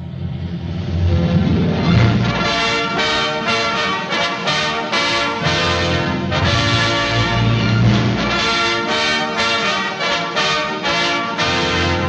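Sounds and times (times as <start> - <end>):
film score music: 0.0 - 12.0.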